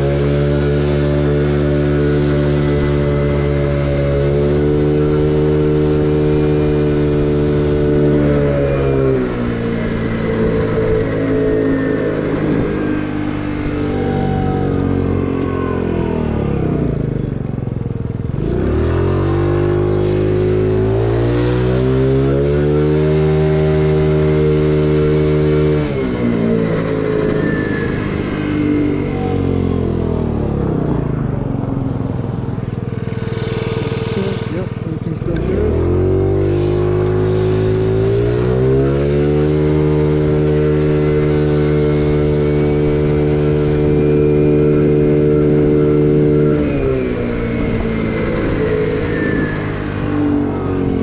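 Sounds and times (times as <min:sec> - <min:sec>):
scooter engine: 0:00.0 - 0:51.0.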